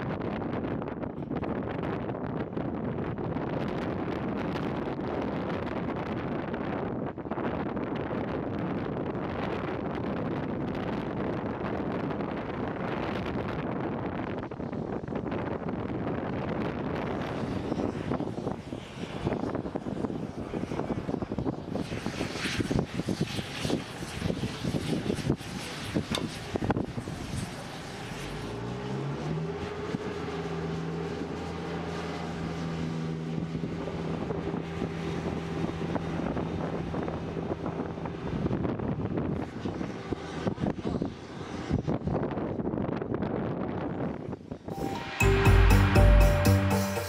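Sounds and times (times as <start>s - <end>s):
wind on microphone: 0.0s - 45.0s.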